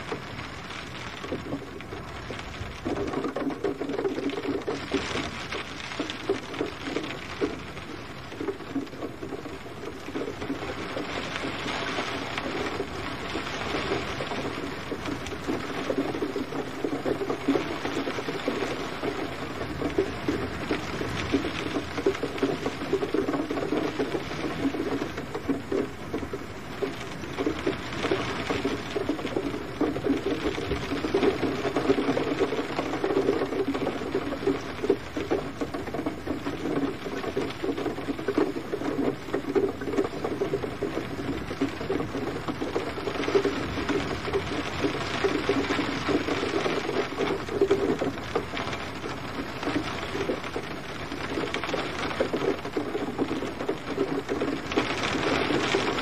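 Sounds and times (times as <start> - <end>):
gentle rain pattering: 0.0 - 56.0.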